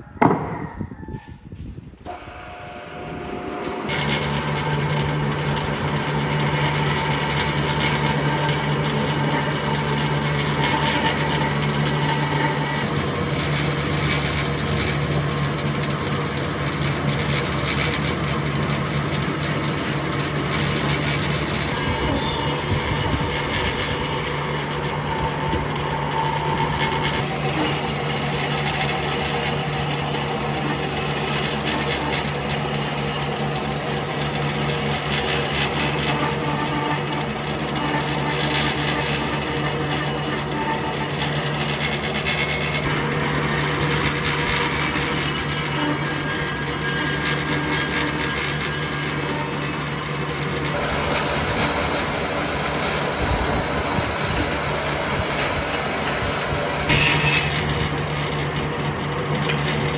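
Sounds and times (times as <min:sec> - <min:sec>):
power tool sanding wood: 0:02.1 - 0:59.9.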